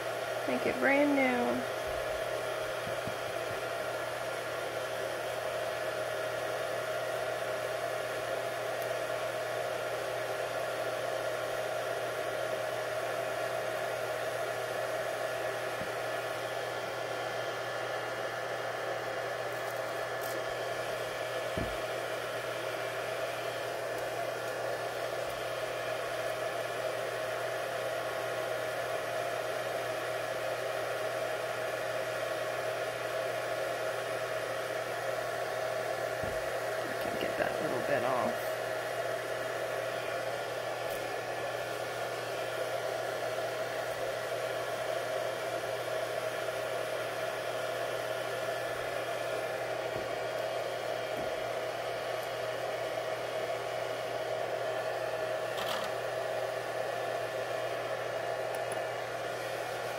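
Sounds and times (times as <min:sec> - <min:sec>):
electric motor whirring hum: 0:00.0 - 0:59.9.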